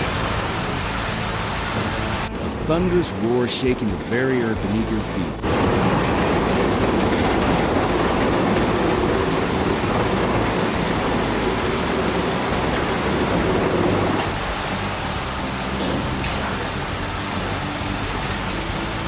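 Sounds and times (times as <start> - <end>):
building collapsing rumble: 0.0 - 19.0.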